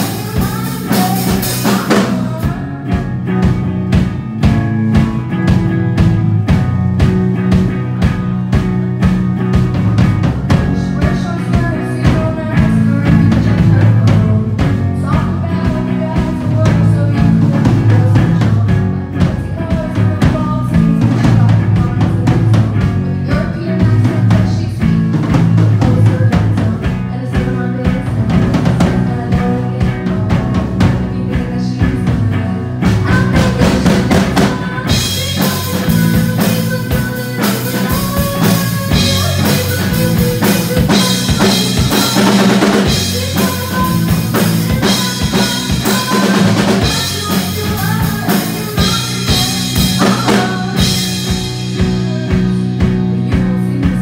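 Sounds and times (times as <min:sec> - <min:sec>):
drum kit beat: 0:00.0 - 0:54.0
rock band playing live: 0:00.0 - 0:54.0.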